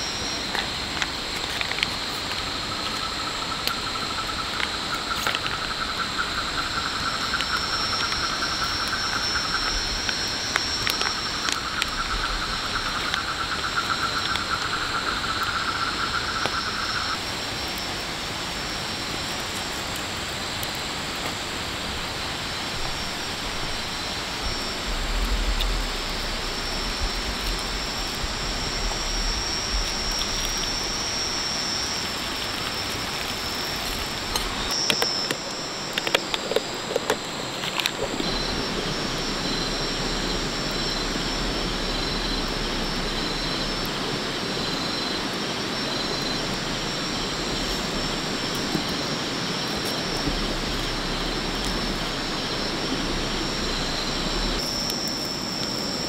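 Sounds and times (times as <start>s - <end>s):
insects droning: 0.0s - 56.0s
pulsing insect chirp: 0.0s - 56.0s
stream running water: 0.0s - 56.0s.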